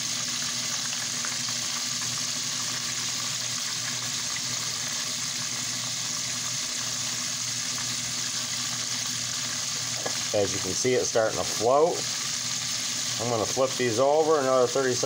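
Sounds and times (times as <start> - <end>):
fish deep-frying in oil: 0.0 - 15.0.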